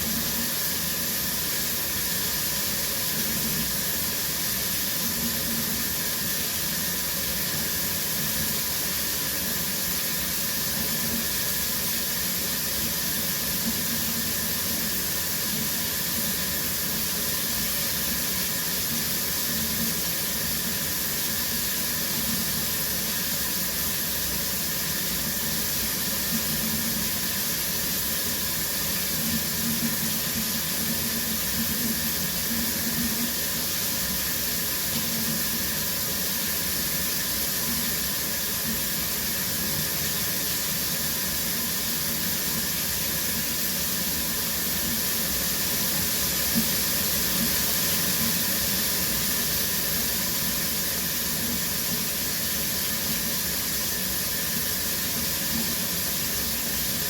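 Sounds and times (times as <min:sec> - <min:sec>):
shower water spraying: 0:00.0 - 0:57.0.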